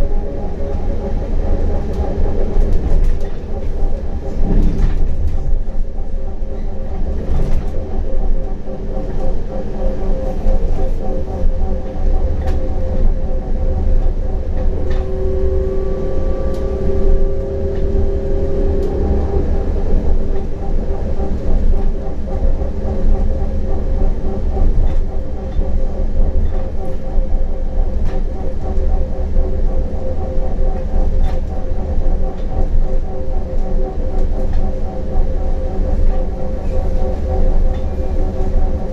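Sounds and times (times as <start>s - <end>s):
tram wheels rumbling on rail: 0.0s - 38.9s.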